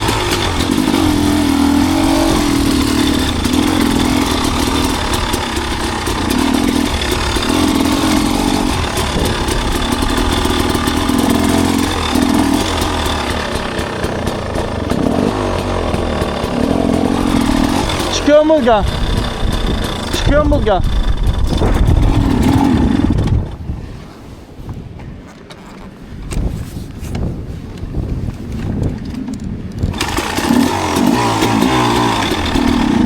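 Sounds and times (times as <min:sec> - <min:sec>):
dirt bike engine revving: 0:00.0 - 0:23.6, 0:29.2 - 0:33.0.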